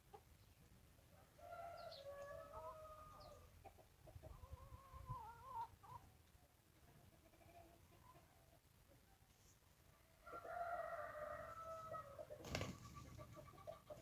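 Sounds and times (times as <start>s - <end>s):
chickens calling: 1.4s - 9.1s, 10.2s - 14.0s.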